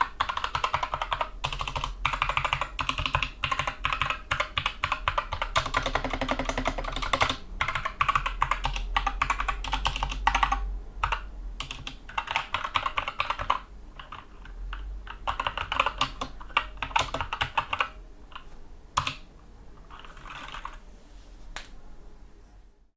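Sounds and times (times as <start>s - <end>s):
mechanical keyboard typing: 0.0s - 20.8s.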